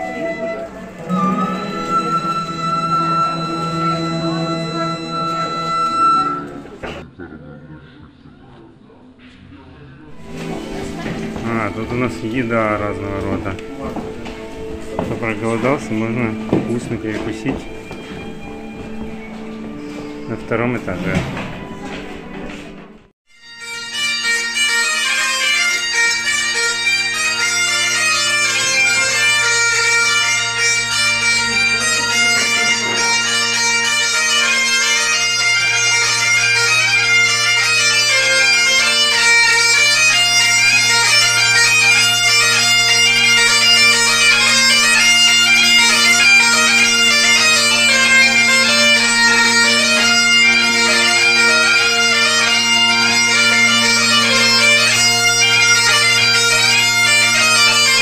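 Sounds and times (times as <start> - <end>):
bagpipe drones humming: 0.0 - 7.0, 10.1 - 22.0, 23.3 - 58.0
bagpipe melody: 0.0 - 7.0, 10.1 - 22.0, 23.3 - 58.0.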